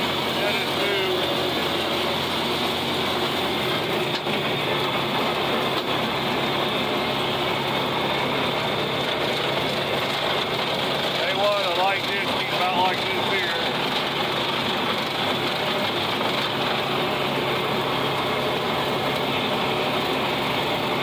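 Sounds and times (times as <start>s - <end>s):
rotary cutter blades: 0.0s - 21.0s
tractor engine running: 0.0s - 21.0s.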